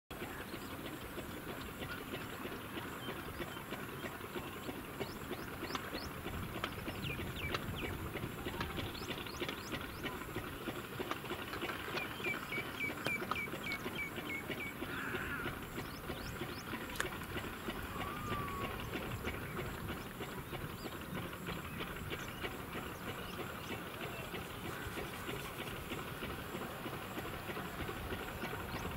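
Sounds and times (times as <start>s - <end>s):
birds chirping: 0.2s - 28.9s.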